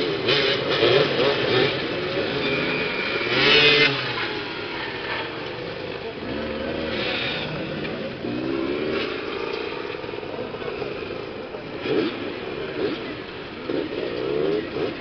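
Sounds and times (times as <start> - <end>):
motorcycle engines idling and revving: 0.0 - 15.0.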